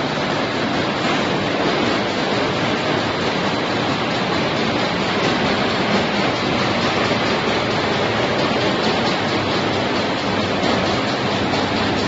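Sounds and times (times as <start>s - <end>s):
machine line running: 0.0s - 12.0s.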